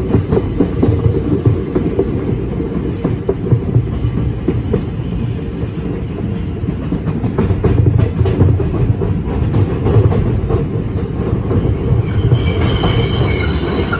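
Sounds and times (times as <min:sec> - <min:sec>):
subway wheels rumbling on rail: 0:00.0 - 0:13.9.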